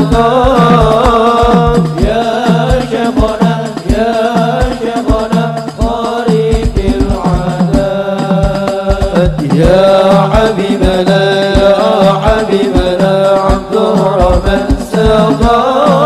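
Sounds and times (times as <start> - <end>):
deep drum strikes: 0.0 - 15.6
men singing in unison: 0.0 - 16.0.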